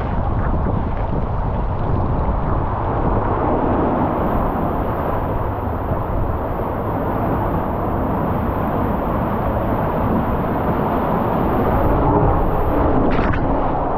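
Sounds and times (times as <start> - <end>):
rushing water rumble: 0.0 - 13.9.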